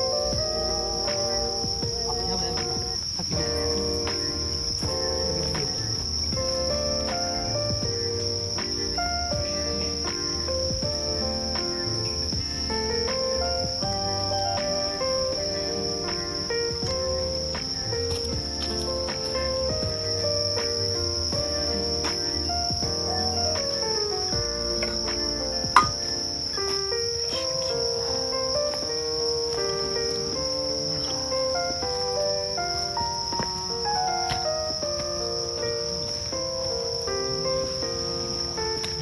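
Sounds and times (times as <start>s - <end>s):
gentle background music: 0.0s - 39.0s
insects trilling: 0.0s - 39.0s.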